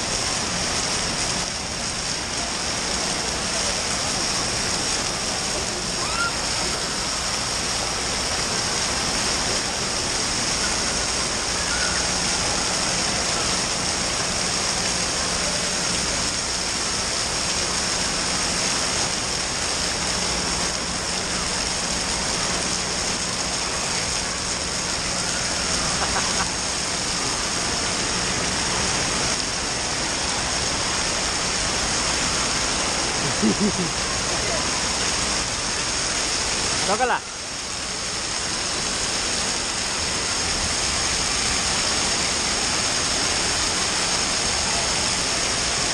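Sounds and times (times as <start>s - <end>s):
falling and splashing water: 0.0s - 45.9s.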